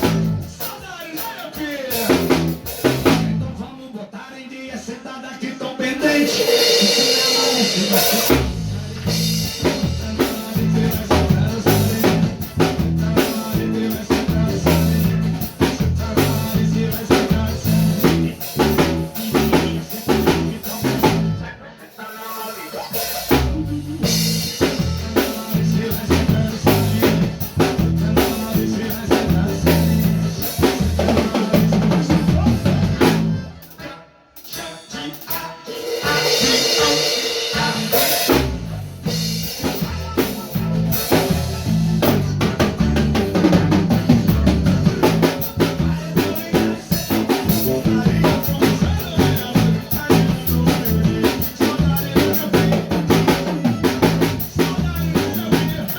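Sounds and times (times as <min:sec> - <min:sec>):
electric bass guitar: 0:00.0 - 0:00.8, 0:01.8 - 0:03.6, 0:06.3 - 0:21.6, 0:23.0 - 0:33.8, 0:36.0 - 0:55.9
drum kit playing: 0:00.0 - 0:03.6, 0:05.8 - 0:55.9.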